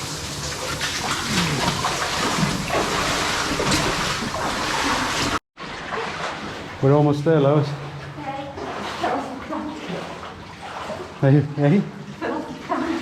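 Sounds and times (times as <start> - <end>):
shallow water splashing and sloshing: 0.0 - 13.0.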